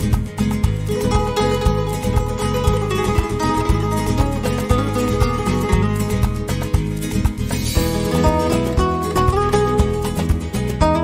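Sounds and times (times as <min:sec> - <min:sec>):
flamenco acoustic guitar: 0:00.0 - 0:11.0.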